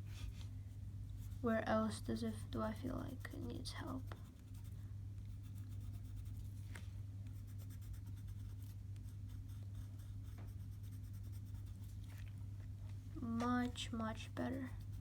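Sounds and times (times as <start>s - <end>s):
colored pencil scratching on paper: 0.0s - 6.7s, 7.3s - 12.2s, 13.4s - 15.0s.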